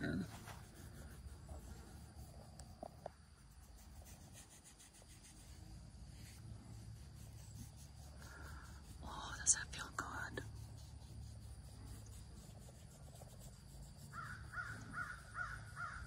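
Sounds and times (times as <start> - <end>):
faint low rumble: 0.0 - 14.1
light rubbing noises: 0.0 - 16.0.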